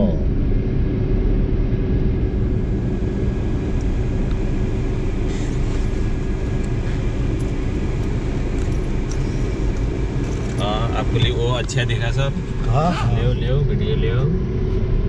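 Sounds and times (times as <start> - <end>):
car engine and road rumble: 0.0 - 15.0
even hum: 0.0 - 15.0.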